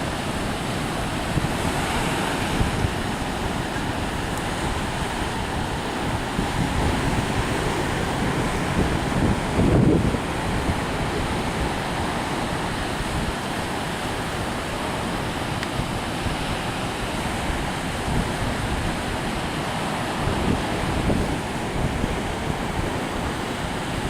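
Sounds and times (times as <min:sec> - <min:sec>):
surf rushing: 0:00.0 - 0:24.0
wind buffeting microphone: 0:00.0 - 0:24.0.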